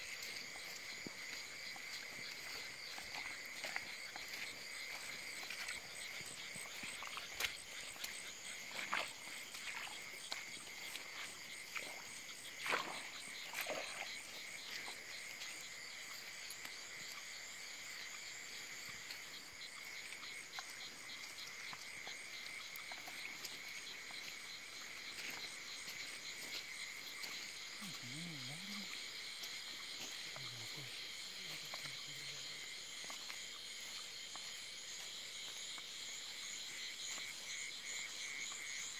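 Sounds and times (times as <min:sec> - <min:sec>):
frogs and insects calling: 0:00.0 - 0:38.9.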